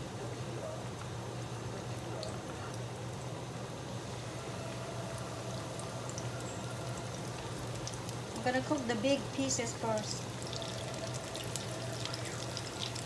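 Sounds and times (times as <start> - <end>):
chicken sizzling in hot oil: 1.8 - 13.0.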